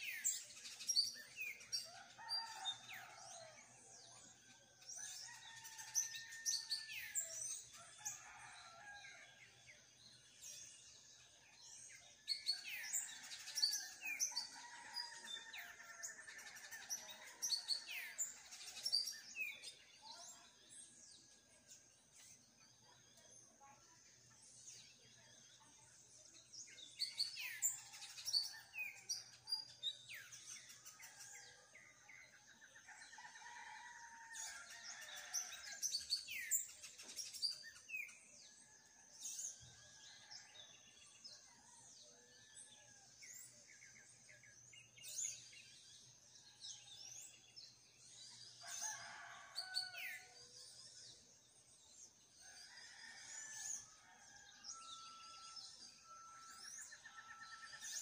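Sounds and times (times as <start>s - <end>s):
birds chirping and singing: 0.0s - 58.0s.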